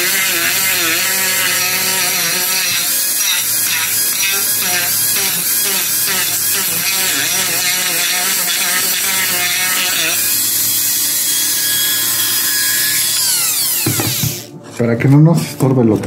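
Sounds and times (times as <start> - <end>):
rotary tool grinding wood: 0.0 - 14.5.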